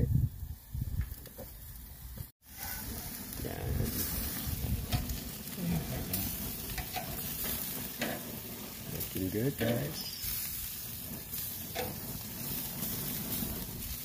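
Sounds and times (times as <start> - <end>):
fish sizzling on a grill: 0.0 - 14.0.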